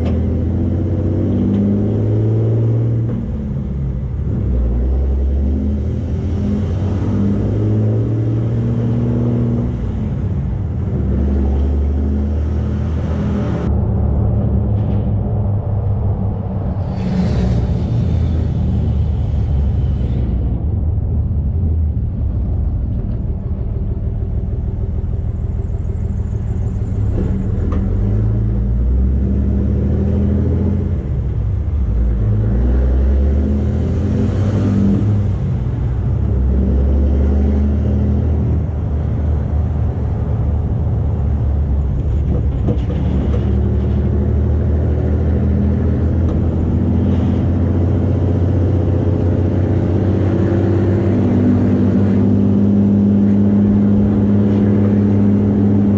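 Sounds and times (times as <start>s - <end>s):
diesel pickup engine under load: 0.0s - 55.9s.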